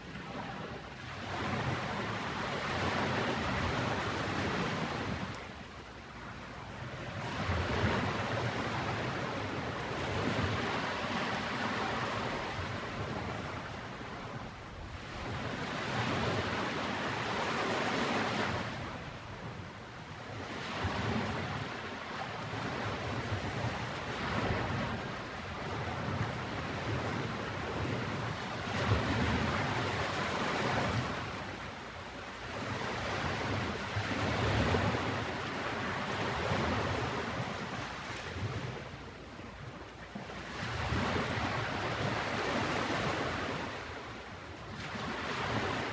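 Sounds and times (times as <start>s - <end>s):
ocean waves breaking on a beach: 0.0s - 45.9s.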